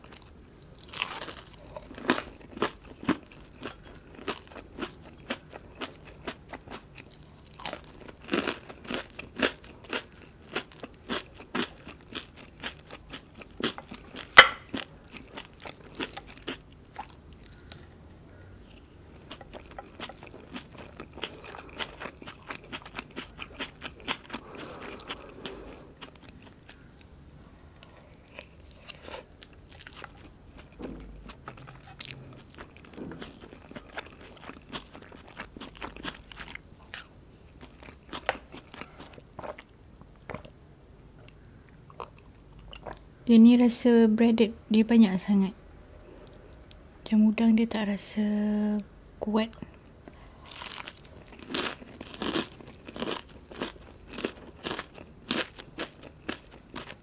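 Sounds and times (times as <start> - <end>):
crunching and chewing fried food: 0.0 - 27.1, 27.7 - 43.0, 49.5 - 57.0.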